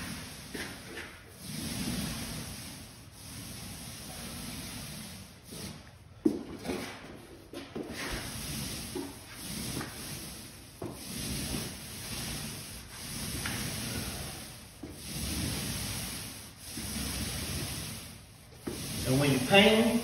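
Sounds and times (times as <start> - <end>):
paint roller rasping on wall: 0.0 - 20.0.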